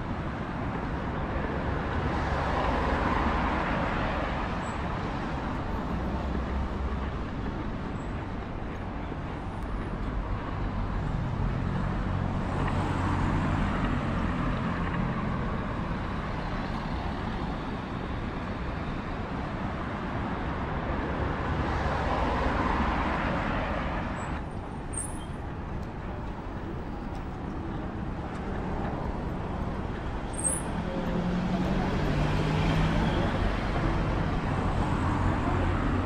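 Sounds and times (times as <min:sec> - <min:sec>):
vehicles passing: 0:00.0 - 0:36.0.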